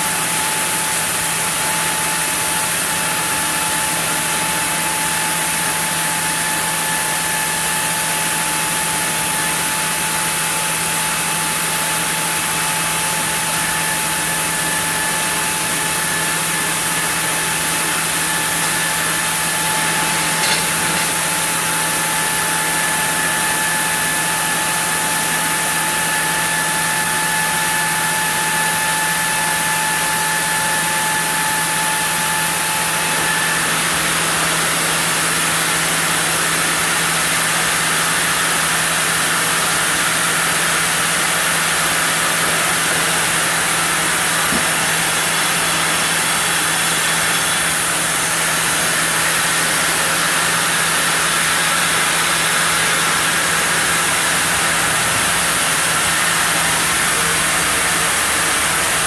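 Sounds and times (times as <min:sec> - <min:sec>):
high machine whine: 0:00.0 - 0:59.0
sawmill saw cutting wood: 0:00.0 - 0:59.0.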